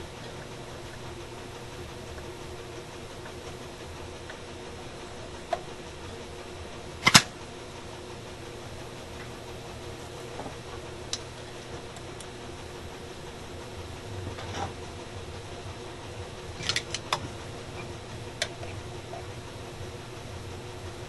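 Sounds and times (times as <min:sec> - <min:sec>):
small fan humming: 0:00.0 - 0:21.0.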